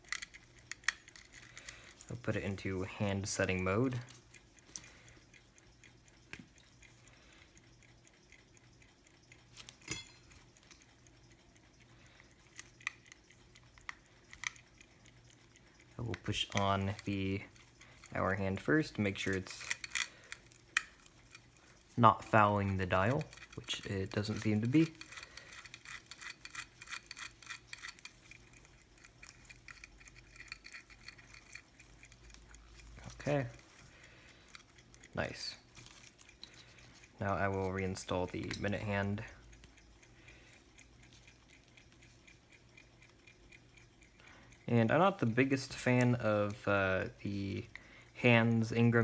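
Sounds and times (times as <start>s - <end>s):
pocket watch clicks and taps: 3.5s - 22.0s, 22.6s - 44.7s.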